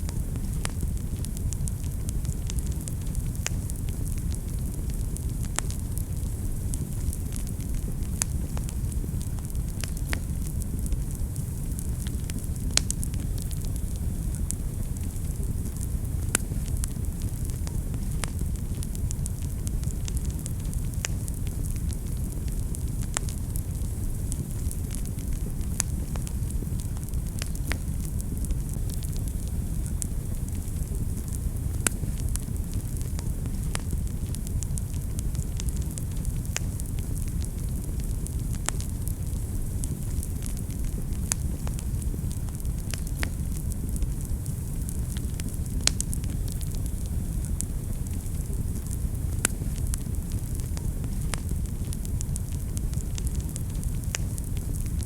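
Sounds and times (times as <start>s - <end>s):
fire low rumble: 0.0s - 55.0s
wood fire crackling and popping: 0.0s - 55.0s.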